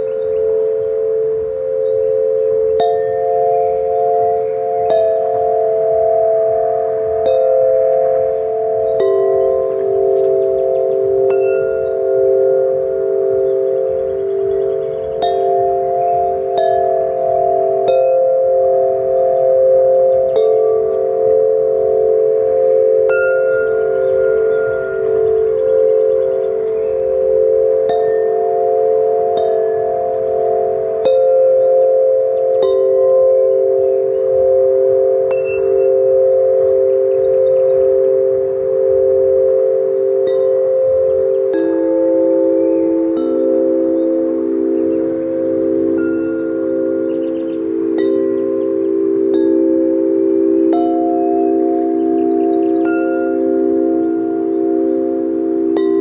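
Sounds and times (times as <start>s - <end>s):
tubular bells ringing: 0.0s - 56.0s.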